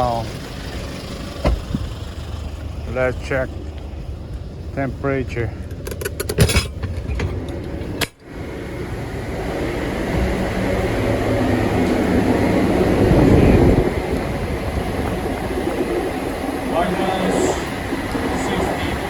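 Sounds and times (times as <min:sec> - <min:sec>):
refrigeration fan: 0:00.0 - 0:19.0
truck engine running: 0:00.0 - 0:19.0.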